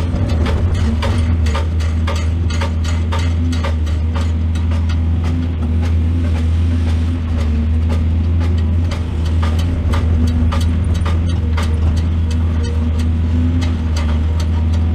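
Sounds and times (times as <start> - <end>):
excavator diesel engine droning: 0.0 - 14.9
irregular knocks and clatters: 0.0 - 14.9.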